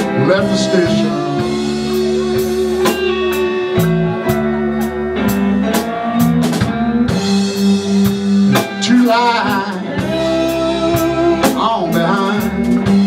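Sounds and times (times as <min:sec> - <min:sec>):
person singing: 0:00.0 - 0:06.4, 0:07.1 - 0:13.0
blues guitar: 0:00.0 - 0:13.0
drum-kit beat: 0:00.0 - 0:13.0.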